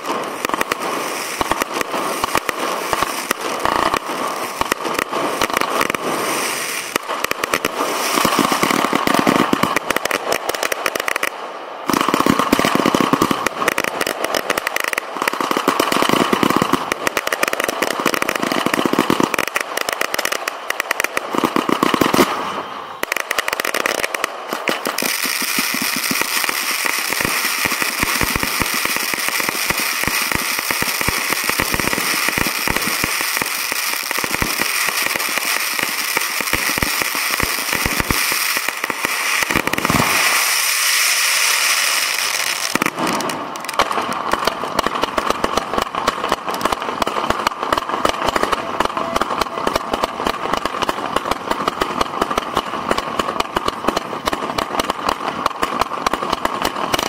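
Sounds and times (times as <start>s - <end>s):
firework crackles: 0.0s - 57.0s
firework fountain hissing: 0.0s - 57.0s
fireworks firing and bursting: 0.0s - 57.0s.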